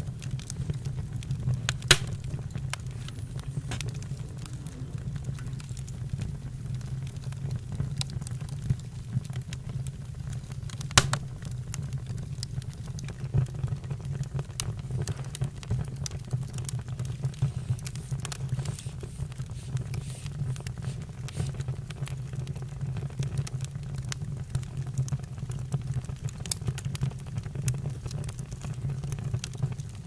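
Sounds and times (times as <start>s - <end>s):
campfire rumbling: 0.0s - 30.0s.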